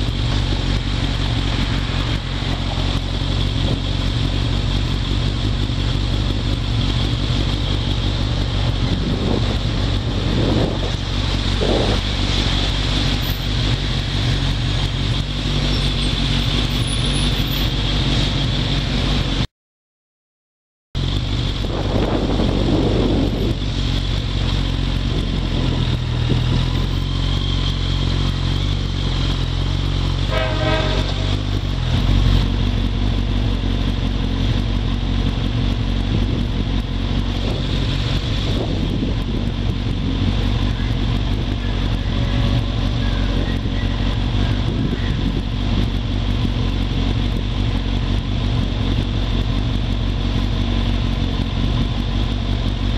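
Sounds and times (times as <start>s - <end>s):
motorcycle engine idling: 0.0s - 19.4s, 21.0s - 52.9s.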